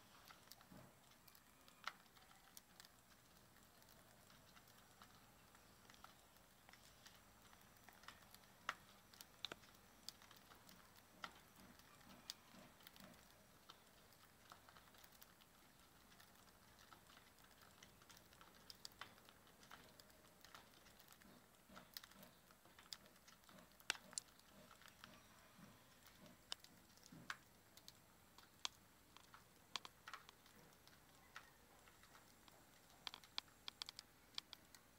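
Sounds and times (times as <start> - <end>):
beaks tapping and cracking seeds: 0.0 - 34.9.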